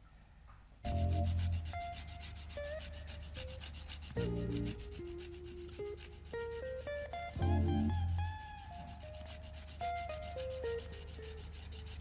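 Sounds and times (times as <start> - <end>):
sliding held-note melody: 0.9 - 12.0.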